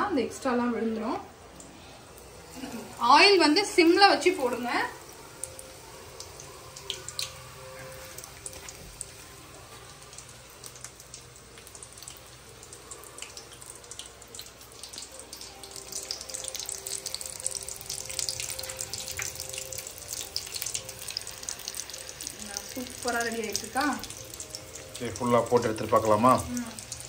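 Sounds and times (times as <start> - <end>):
fish fingers sizzling in hot oil: 1.7 - 27.0.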